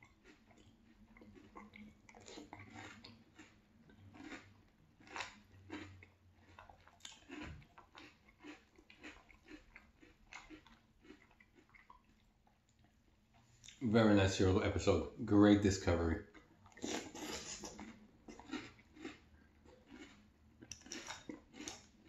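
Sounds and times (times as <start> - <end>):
chewing crunchy cereal: 0.0 - 13.8, 15.8 - 22.0.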